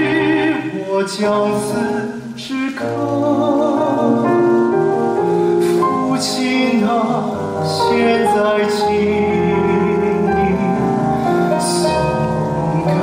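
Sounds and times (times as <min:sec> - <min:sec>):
piano and orchestra: 0:00.0 - 0:13.0.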